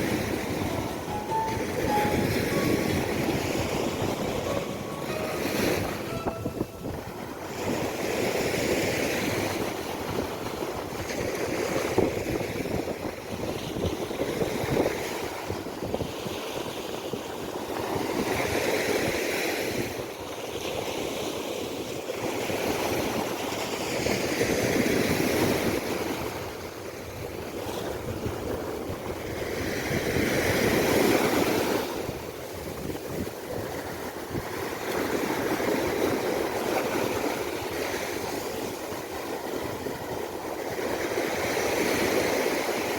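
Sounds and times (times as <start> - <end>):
waves breaking on a beach: 0.0 - 42.9.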